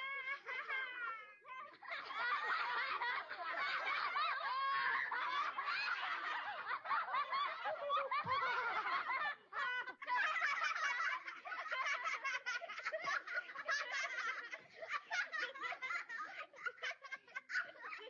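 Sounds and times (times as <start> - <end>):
children laughing: 0.0 - 18.0.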